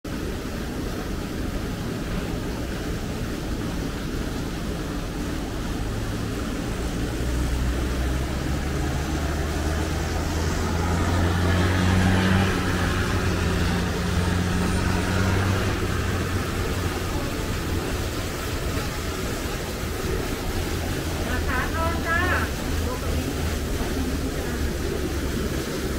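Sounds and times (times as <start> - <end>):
engine drone: 0.0 - 25.9.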